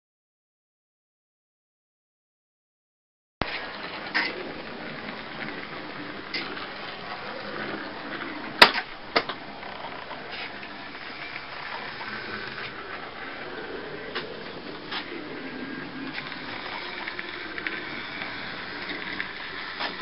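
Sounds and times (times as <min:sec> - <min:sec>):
model trolleybus motors running: 0:03.7 - 0:20.0.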